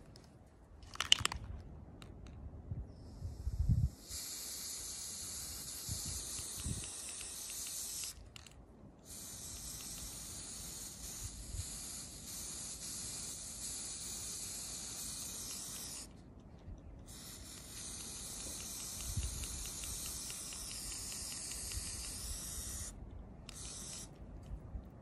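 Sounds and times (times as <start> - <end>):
spray paint can hissing: 3.0 - 16.1, 16.9 - 24.2.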